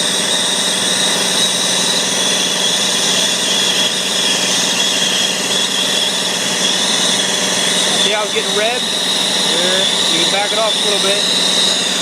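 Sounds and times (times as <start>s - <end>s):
torch roaring hiss: 0.0s - 12.0s.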